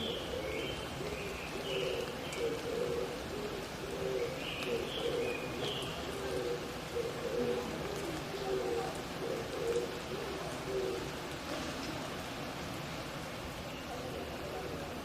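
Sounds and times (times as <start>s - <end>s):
doves cooing: 0.0s - 15.0s
faint steady forest hiss: 0.0s - 15.0s.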